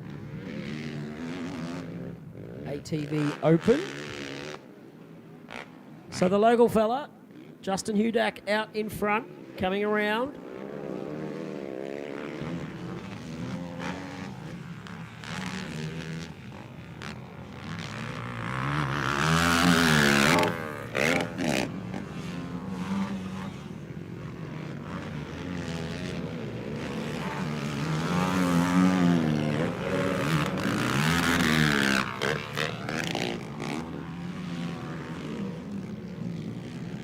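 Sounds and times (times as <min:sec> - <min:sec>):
quad engines revving: 0:00.0 - 0:04.6, 0:10.4 - 0:37.0.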